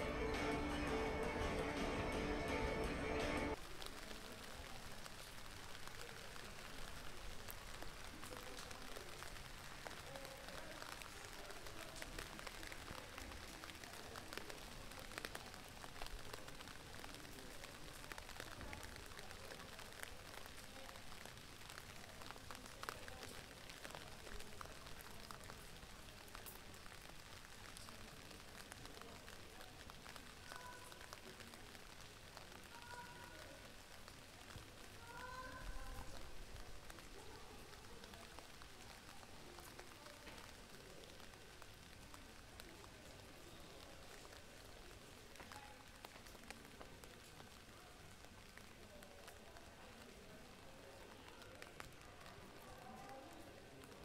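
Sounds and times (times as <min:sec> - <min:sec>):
crackling hiss with clicks: 0:03.5 - 0:54.0.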